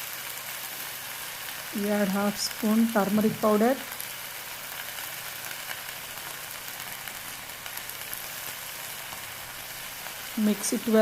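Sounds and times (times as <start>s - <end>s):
vegetables sizzling in pan: 0.0s - 11.0s.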